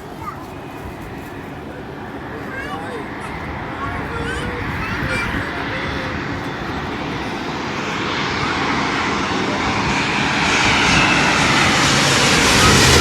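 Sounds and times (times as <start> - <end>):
high fan whine: 0.0 - 13.0
jet engine roar: 0.0 - 13.0.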